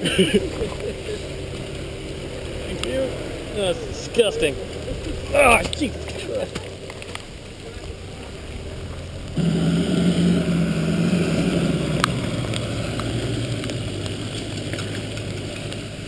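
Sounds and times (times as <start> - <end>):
vehicle engine running loudly: 0.0 - 16.0.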